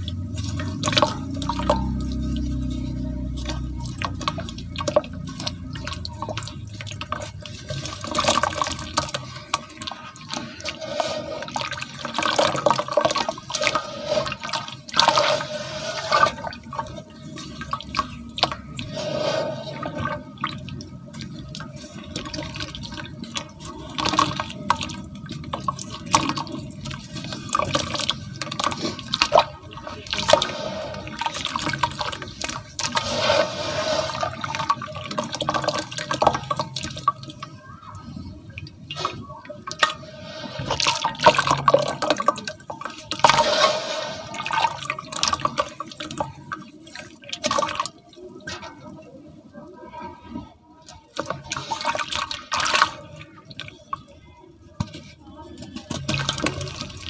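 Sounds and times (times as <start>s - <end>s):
hands squeezing wet cement in water: 0.0s - 49.0s, 50.4s - 54.2s, 54.8s - 57.0s
water sloshing and splashing: 0.0s - 49.6s, 50.2s - 57.0s.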